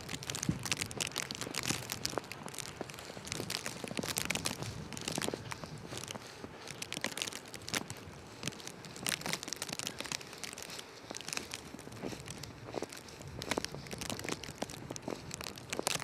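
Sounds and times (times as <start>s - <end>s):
footsteps crunching in snow: 0.0s - 16.0s.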